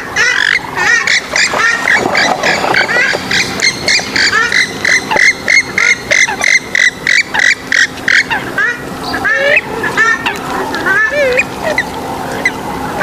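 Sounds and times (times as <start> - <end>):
water birds clipped calls: 0.0 - 13.0.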